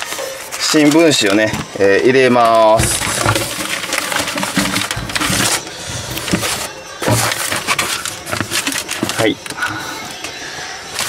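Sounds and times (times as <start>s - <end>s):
newspaper rustling and crinkling: 0.0s - 10.0s.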